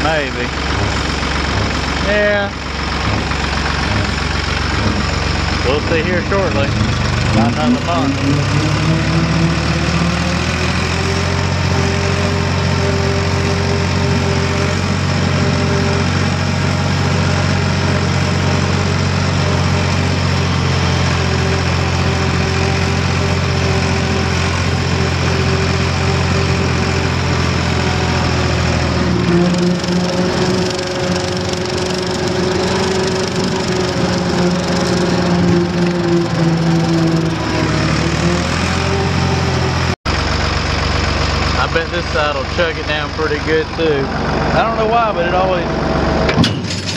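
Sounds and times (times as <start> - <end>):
rotary mower cutting grass: 0.0 - 46.9
tractor engine running: 0.0 - 46.9.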